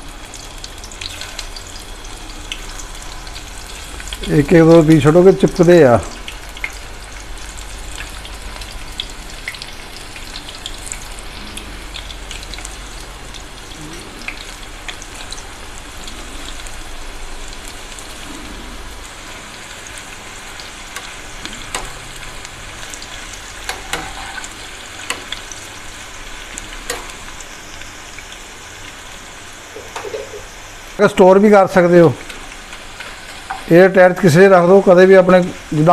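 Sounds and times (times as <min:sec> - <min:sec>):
banana slices deep-frying in oil: 0:00.0 - 0:35.9.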